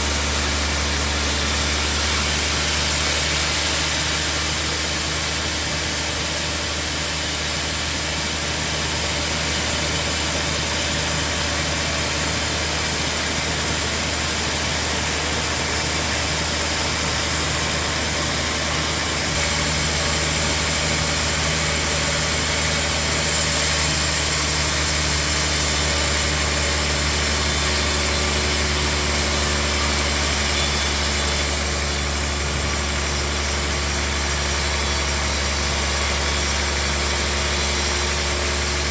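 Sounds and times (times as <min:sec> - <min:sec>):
bandsaw running: 0:00.0 - 0:38.9.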